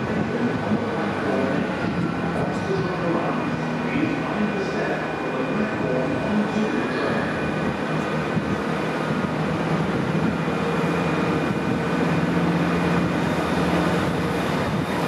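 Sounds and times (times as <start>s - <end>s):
train engine drone: 0.0s - 15.0s.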